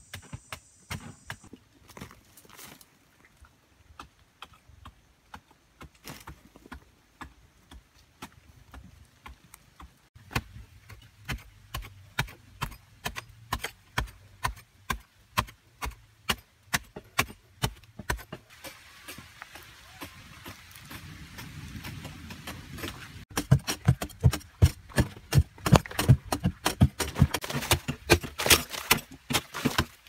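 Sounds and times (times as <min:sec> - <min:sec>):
tool striking hard earth: 0:00.0 - 0:02.6, 0:04.0 - 0:30.0.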